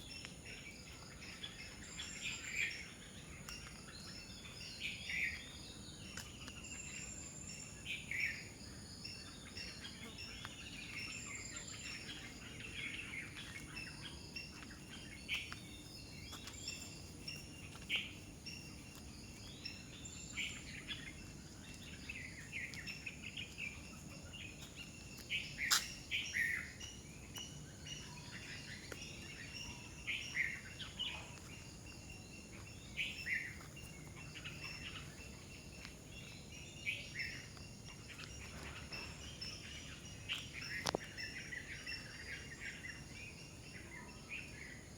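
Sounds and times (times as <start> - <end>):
wild birds chirping and whistling: 0.0 - 44.9.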